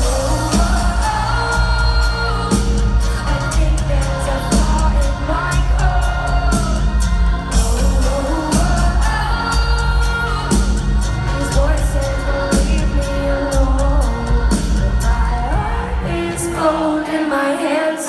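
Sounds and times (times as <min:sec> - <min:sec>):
woman singing into a microphone: 0:00.0 - 0:18.0.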